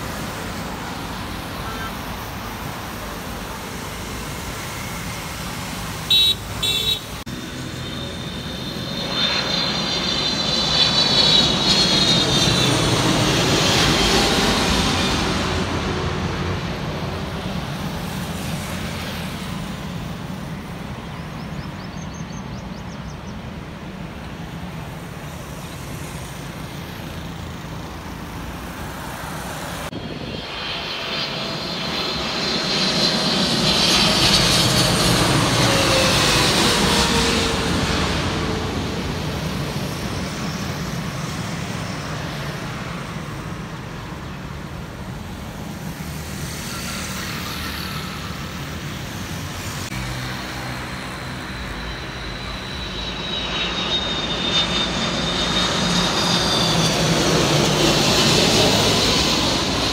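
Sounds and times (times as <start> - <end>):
approaching jet whine: 0.0 - 22.2, 22.9 - 59.9
jet airliner passing: 0.0 - 59.9.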